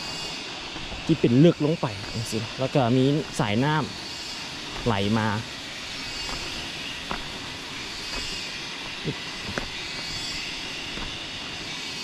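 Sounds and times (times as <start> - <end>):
cicadas chirring: 0.0 - 12.0
distant waterfall rushing: 0.0 - 12.0.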